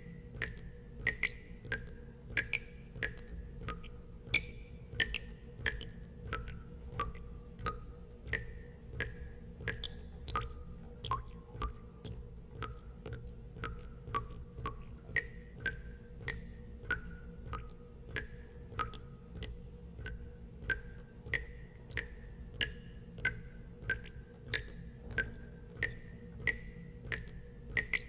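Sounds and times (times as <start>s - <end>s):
steady low hum: 0.0s - 28.0s
water drops plinking into water: 0.3s - 28.0s.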